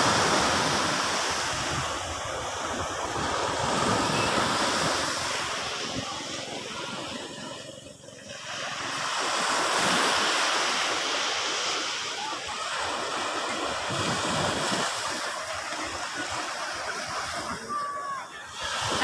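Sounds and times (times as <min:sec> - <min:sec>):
sea waves washing on sand: 0:00.0 - 0:19.0.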